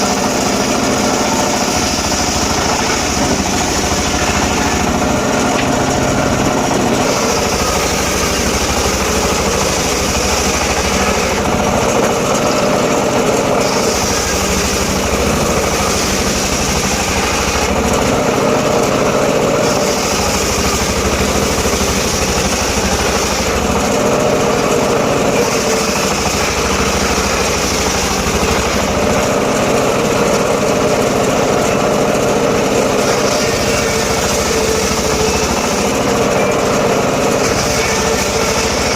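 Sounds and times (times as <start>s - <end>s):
saw cutting wood hiss: 0.0s - 30.9s, 31.6s - 38.9s
engine hum: 0.0s - 38.9s.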